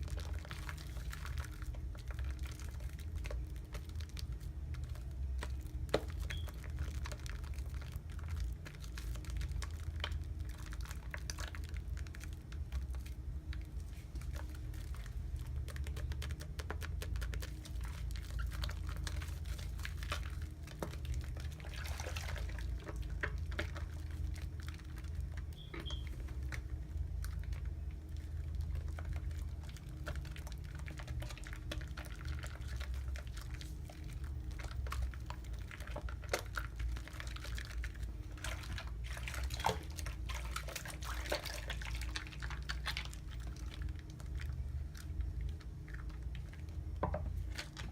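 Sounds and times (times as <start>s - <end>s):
soap lather squishing: 0.0s - 47.9s
steady low hum: 0.0s - 47.9s.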